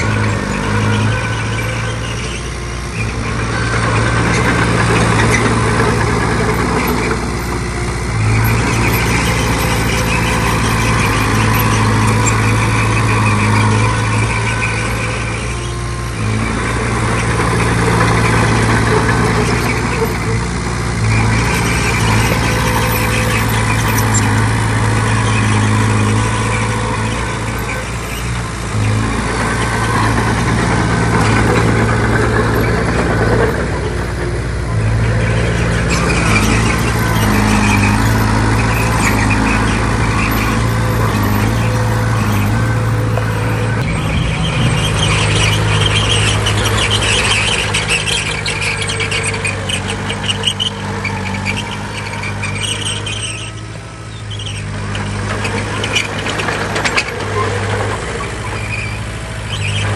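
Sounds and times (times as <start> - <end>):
heavy diesel machine running: 0.0 - 59.9
high metallic squealing: 0.0 - 59.9.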